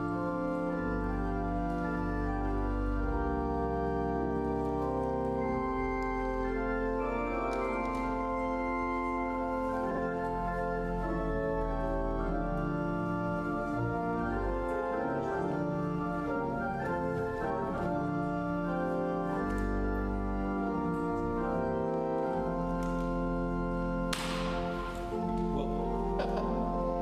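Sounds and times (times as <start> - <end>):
church organ chords: 0.0 - 27.0.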